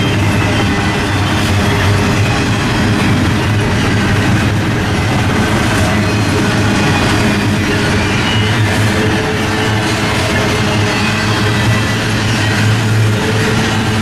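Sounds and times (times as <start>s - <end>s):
steel wheels on rails: 0.0s - 14.0s.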